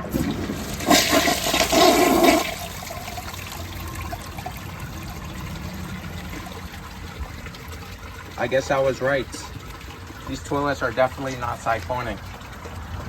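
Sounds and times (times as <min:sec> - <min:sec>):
toilet flushing: 0:00.0 - 0:13.0
water swirling in toilet bowl: 0:00.0 - 0:13.0.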